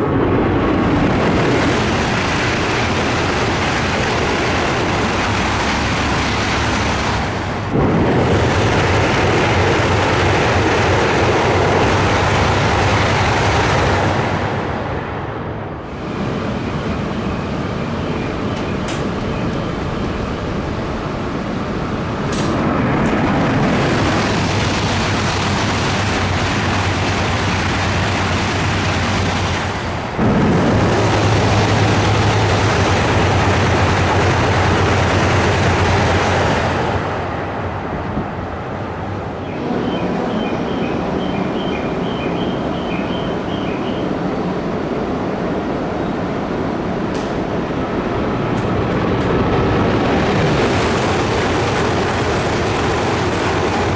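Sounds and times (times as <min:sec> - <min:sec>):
trains passing at high speed: 0:00.0 - 0:53.9.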